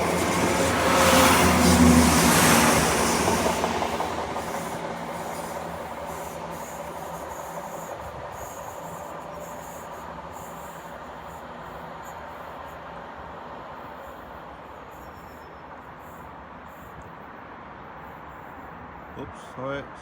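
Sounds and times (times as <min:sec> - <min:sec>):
train wheels on rails: 0:00.0 - 0:19.8
diesel train pulling away: 0:00.0 - 0:20.0.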